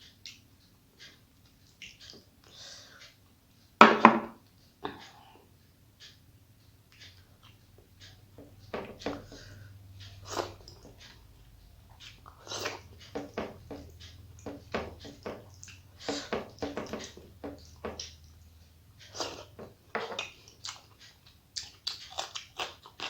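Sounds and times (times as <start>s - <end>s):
low steady hum: 0.0s - 22.7s
person chewing and smacking: 0.2s - 3.2s, 6.9s - 23.0s.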